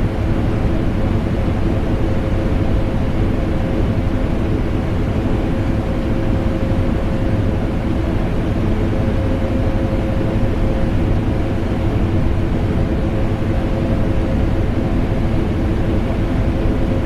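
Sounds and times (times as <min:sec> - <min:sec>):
air conditioner: 0:00.0 - 0:17.0.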